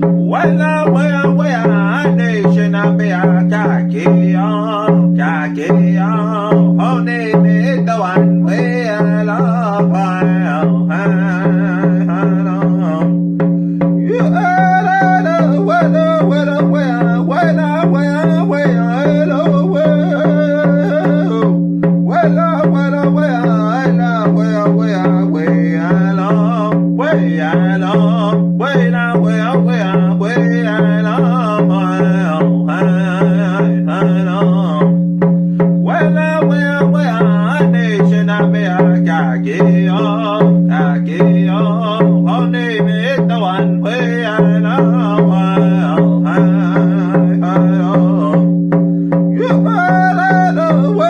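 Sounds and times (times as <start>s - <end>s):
hand drum beating: 0.0s - 51.0s
person singing vocables: 0.0s - 51.0s.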